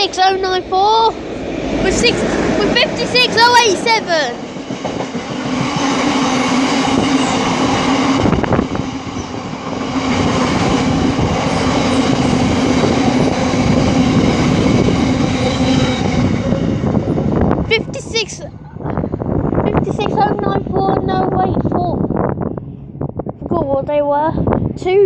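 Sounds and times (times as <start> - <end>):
locomotive engines droning: 0.0 - 23.4.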